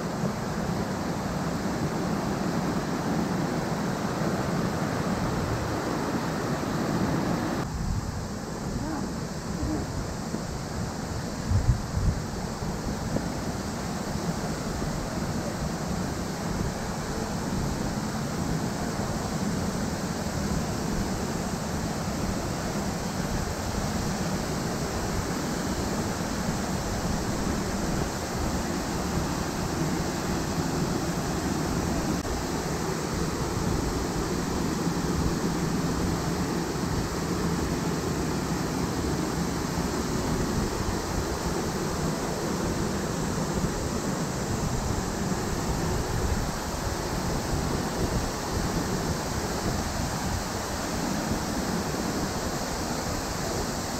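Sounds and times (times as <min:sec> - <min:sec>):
waterfall and stream rushing: 0:00.0 - 0:53.9.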